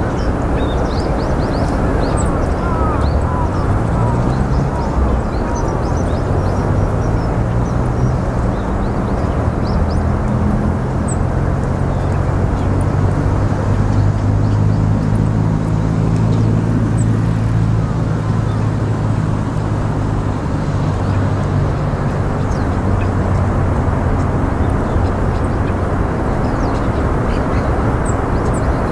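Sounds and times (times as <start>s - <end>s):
engine hum: 0.0s - 28.9s
low engine rumble: 0.0s - 28.9s.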